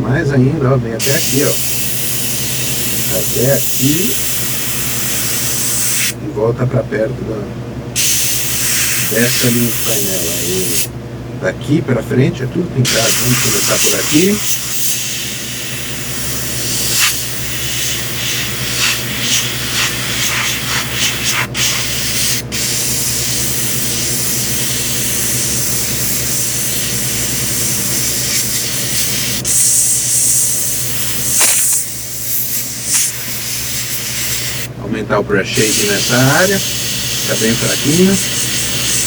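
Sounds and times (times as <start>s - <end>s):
steady low hum: 0.0s - 39.0s
airbrush spraying hiss: 1.0s - 6.1s, 8.0s - 10.9s, 12.9s - 34.7s, 35.6s - 39.0s.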